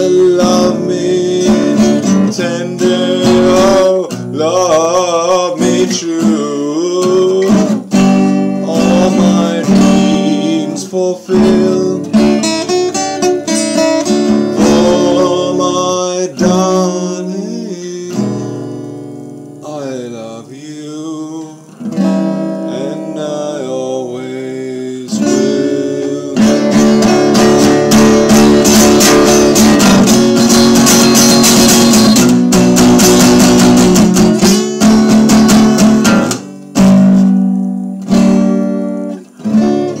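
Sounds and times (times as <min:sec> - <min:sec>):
acoustic guitar playing: 0:00.0 - 0:40.0.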